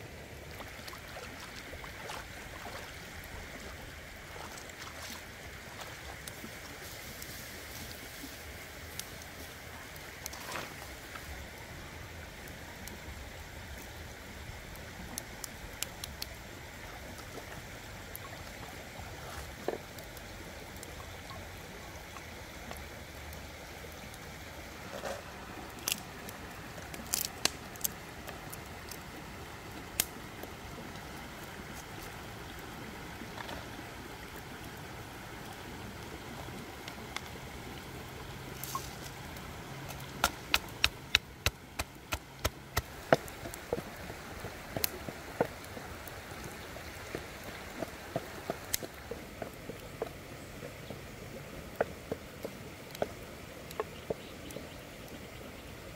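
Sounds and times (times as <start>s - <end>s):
river flowing over stones: 0.0s - 55.9s.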